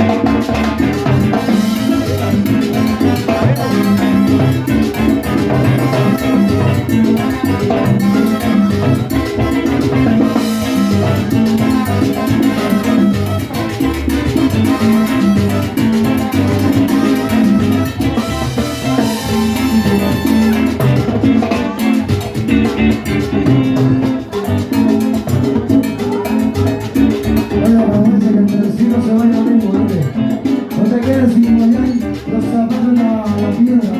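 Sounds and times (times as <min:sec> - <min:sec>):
drums and percussion: 0:00.0 - 0:33.9
salsa band playing: 0:00.0 - 0:33.9.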